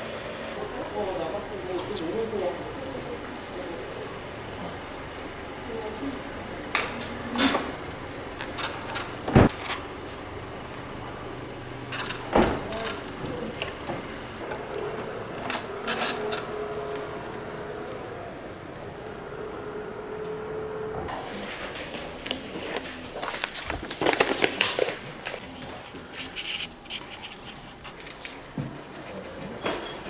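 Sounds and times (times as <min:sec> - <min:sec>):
electric scooter whine: 0:00.0 - 0:30.0.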